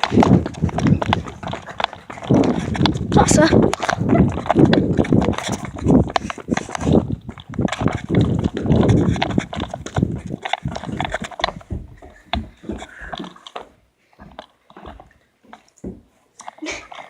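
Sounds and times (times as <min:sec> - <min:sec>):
rapid irregular thumps and clicks: 0:00.0 - 0:16.7.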